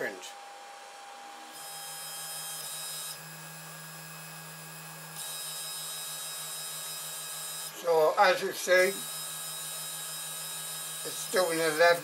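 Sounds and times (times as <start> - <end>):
three d printer stepper motors humming: 0.3 - 12.0.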